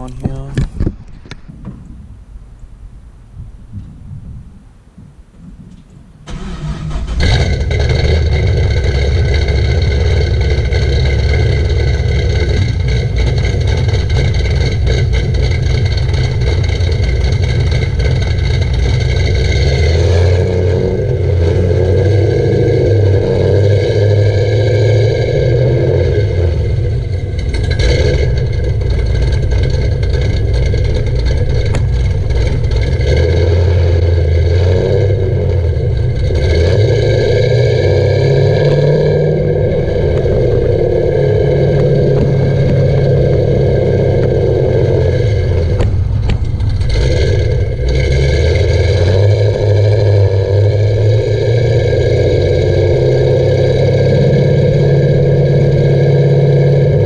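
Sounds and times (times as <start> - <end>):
car engine starting: 0.0 - 57.0
car engine idling loudly: 6.3 - 57.0.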